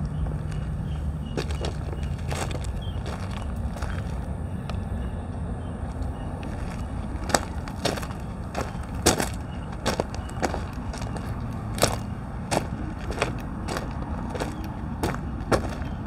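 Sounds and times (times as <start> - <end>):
footsteps crunching on gravel: 0.0 - 4.3, 5.8 - 16.0.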